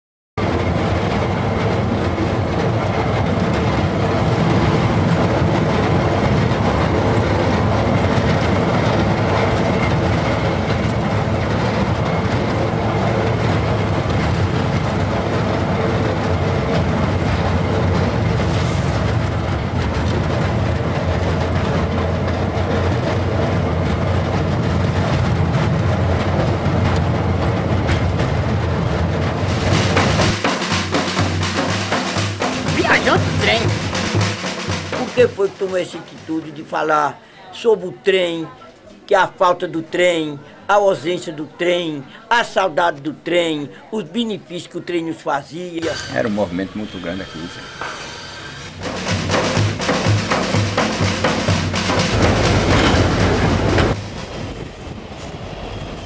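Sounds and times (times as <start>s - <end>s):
train running on rails: 0.4s - 56.0s.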